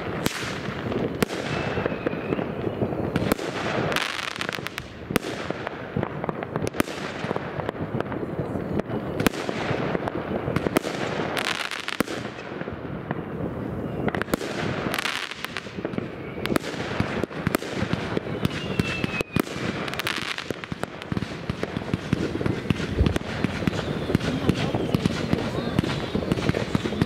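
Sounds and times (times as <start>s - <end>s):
falling firework whistle: 0.0s - 27.0s
fireworks bangs and crackling: 0.0s - 27.0s.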